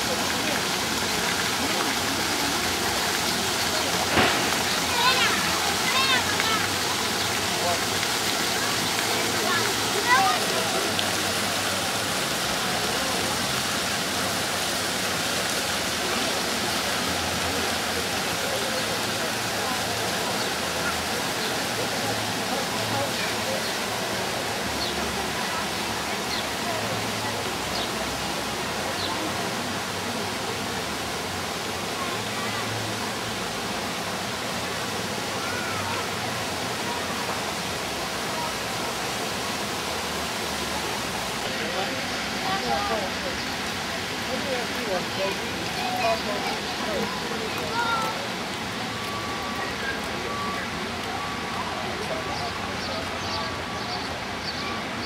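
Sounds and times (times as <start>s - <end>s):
faint distant voices: 0.0s - 55.0s
fountain water splashing: 0.0s - 55.0s
rushing outdoor hiss: 0.0s - 55.0s.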